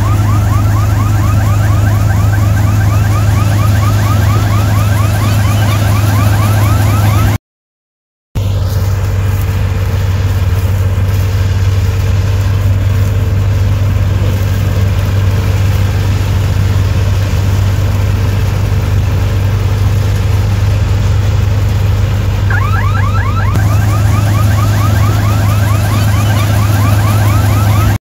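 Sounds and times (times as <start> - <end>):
combine harvester engine drone: 0.0 - 7.4, 8.4 - 28.0.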